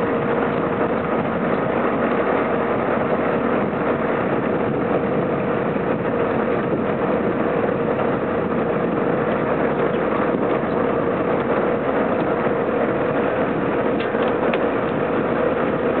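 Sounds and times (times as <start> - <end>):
constant machine whine: 0.0 - 16.0
harvesting machinery engine: 0.0 - 16.0.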